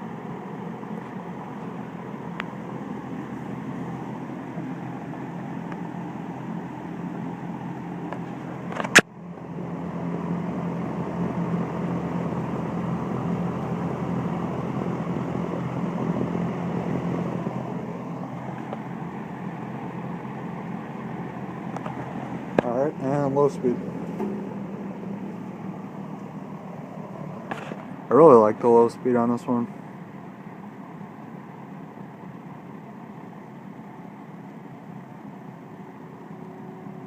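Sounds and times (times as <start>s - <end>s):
fan whooshing air and humming: 0.0s - 37.0s.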